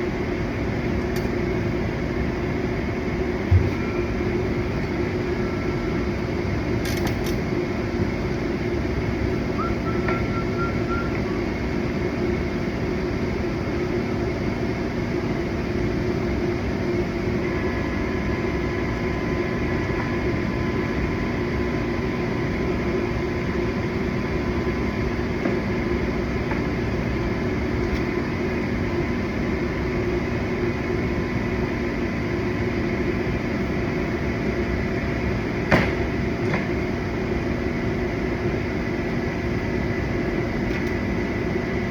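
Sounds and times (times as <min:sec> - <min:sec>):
machine humming: 0:00.2 - 0:06.8, 0:07.5 - 0:35.5.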